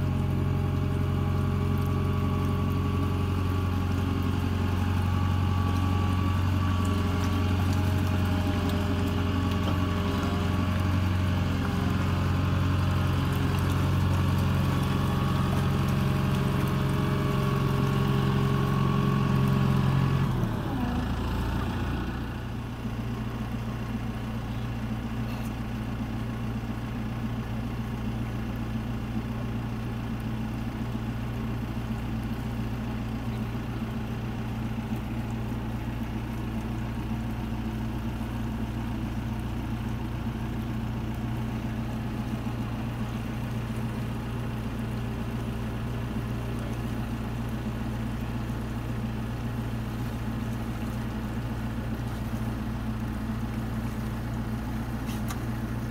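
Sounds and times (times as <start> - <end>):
tractor engine idling: 0.0 - 55.9.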